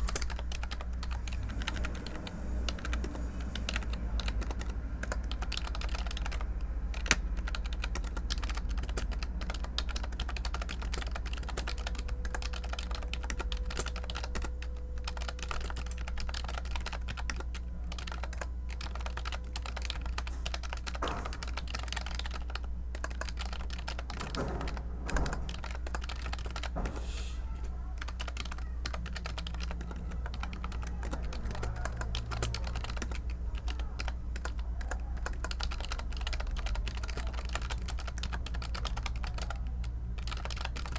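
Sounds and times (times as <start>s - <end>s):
computer keyboard typing: 0.0s - 26.9s, 27.8s - 40.9s.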